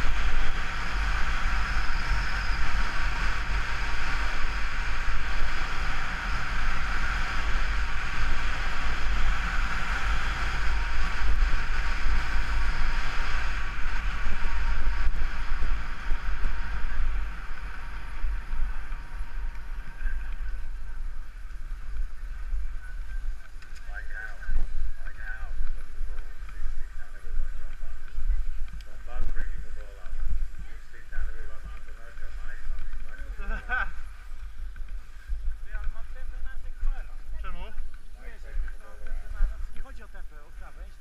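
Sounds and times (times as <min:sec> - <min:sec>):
skis sliding on snow: 0:00.0 - 0:41.0
wind rushing over camera: 0:00.0 - 0:41.0.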